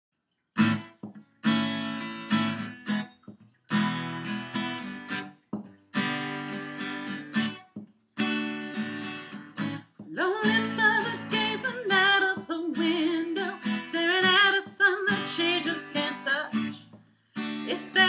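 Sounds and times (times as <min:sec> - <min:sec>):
acoustic guitar strumming chords: 0:00.6 - 0:18.0.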